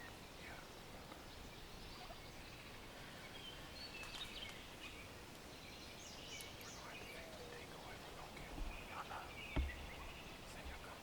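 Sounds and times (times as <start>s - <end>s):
faint birds chirping: 0.0s - 11.0s
low steady background hiss: 0.0s - 11.0s.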